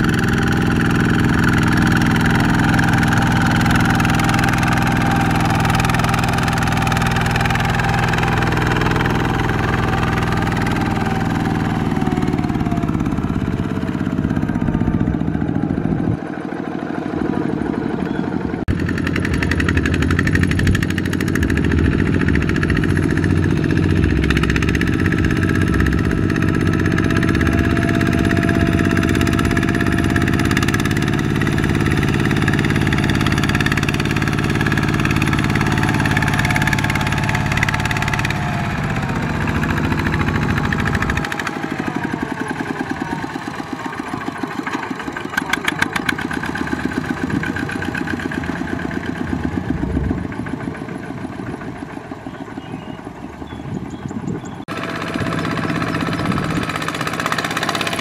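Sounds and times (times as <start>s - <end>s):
diesel engine under heavy load: 0.0s - 58.0s.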